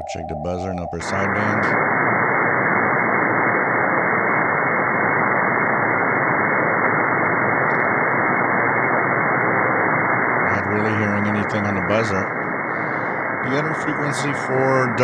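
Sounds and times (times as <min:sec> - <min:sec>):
shortwave radio static hiss: 0:00.0 - 0:15.0.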